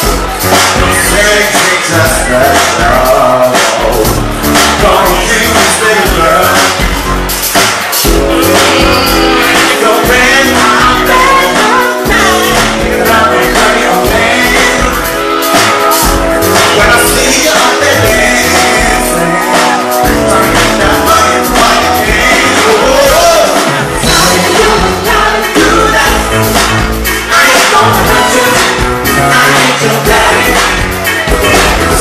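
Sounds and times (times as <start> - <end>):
bass: 0.0 - 32.0
drums: 0.0 - 32.0
male voice singing: 0.0 - 32.0
synthesizer keyboards: 0.0 - 32.0.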